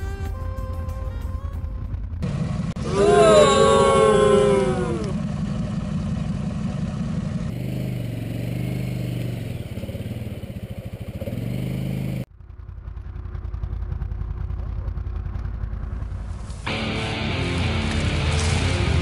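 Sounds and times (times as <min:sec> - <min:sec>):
quad bike engines revving: 0:01.8 - 0:12.3, 0:13.1 - 0:19.0.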